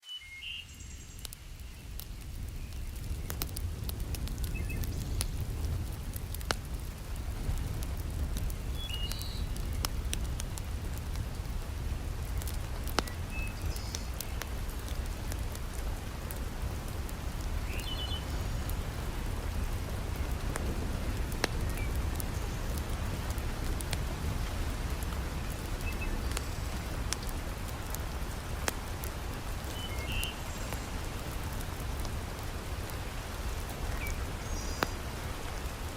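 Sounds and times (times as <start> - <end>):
wood fire crackling: 0.7 - 35.9
heavy rain falling: 1.2 - 35.9.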